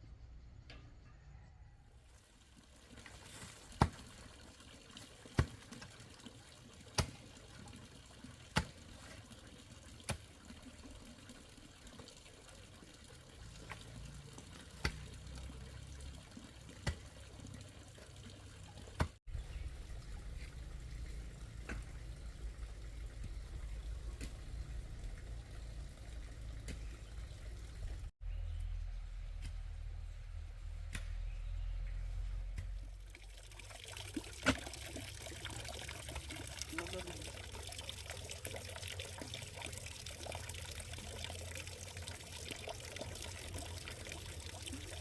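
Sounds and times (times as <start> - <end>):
water dripping: 2.2 - 28.1, 32.6 - 45.0.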